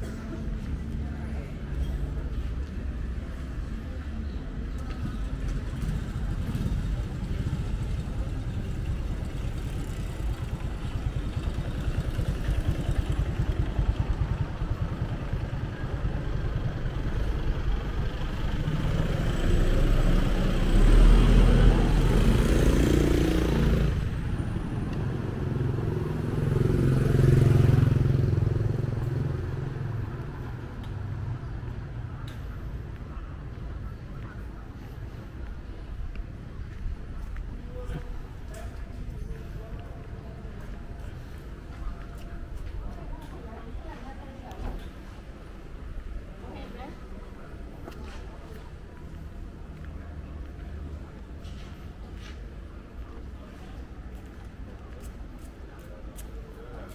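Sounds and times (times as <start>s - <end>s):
traffic rumble: 0.0s - 56.9s
vehicles passing close by: 0.0s - 56.9s.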